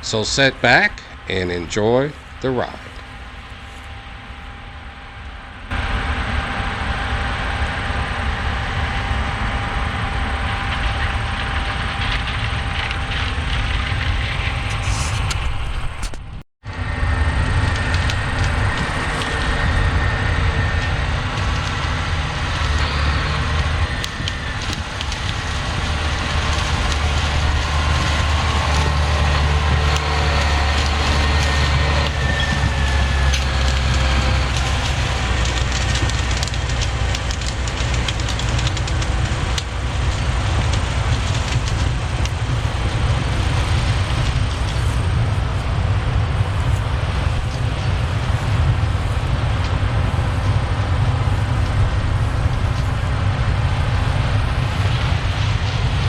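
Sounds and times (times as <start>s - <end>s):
combine engine drone: 0.0s - 56.0s
threshing machinery rattle: 5.7s - 16.4s, 17.2s - 56.0s.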